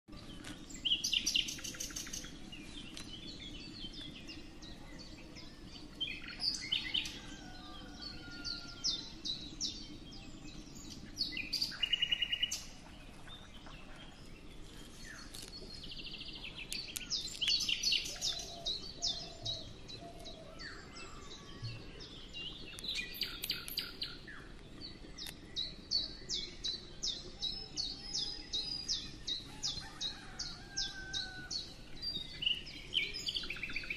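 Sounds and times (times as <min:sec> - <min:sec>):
small birds chirping and trilling: 0:00.1 - 0:33.9.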